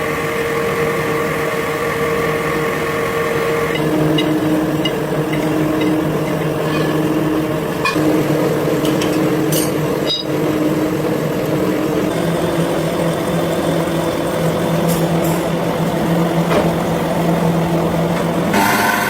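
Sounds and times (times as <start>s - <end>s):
factory machinery humming: 0.0s - 19.0s.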